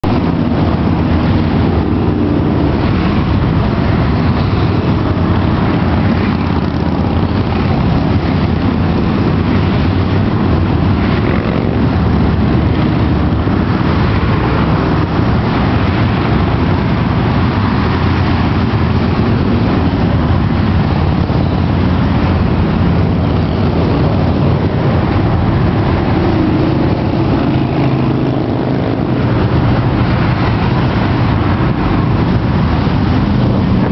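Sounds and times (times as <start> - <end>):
tyre and wind noise: 0.0 - 33.9.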